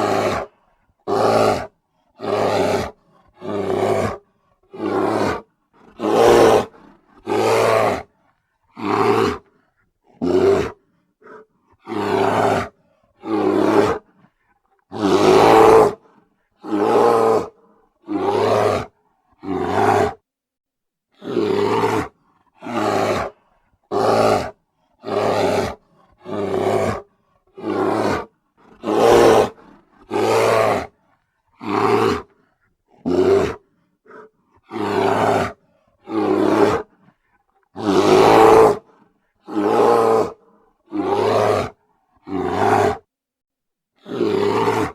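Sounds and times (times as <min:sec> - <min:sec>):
bear roaring: 0:00.0 - 0:08.1, 0:08.8 - 0:14.2, 0:14.9 - 0:20.2, 0:21.2 - 0:31.0, 0:31.6 - 0:37.0, 0:37.7 - 0:43.1, 0:44.0 - 0:44.9.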